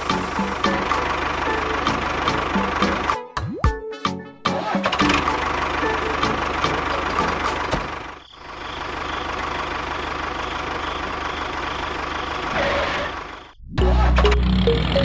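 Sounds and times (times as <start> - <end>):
tractor engine chugging: 0.0 - 3.3, 4.7 - 13.6.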